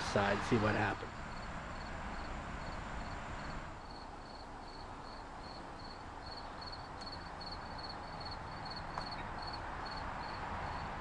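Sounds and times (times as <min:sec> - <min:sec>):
outdoor hiss: 0:00.0 - 0:11.0
insect chirping: 0:01.1 - 0:11.0.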